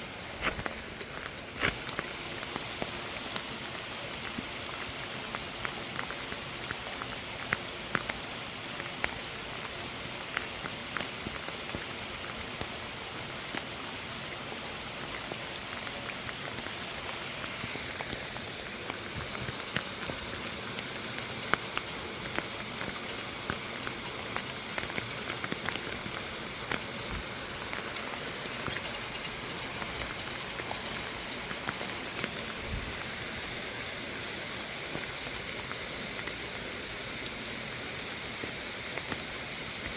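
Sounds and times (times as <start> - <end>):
raindrops dripping: 0.0 - 39.9
steady rain: 0.0 - 39.9.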